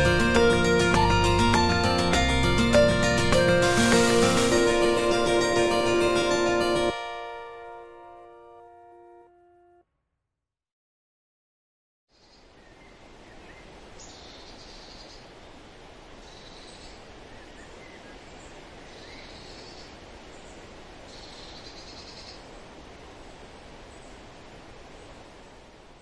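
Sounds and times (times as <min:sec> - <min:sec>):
steady forest hiss: 0:00.0 - 0:08.2, 0:12.1 - 0:26.0.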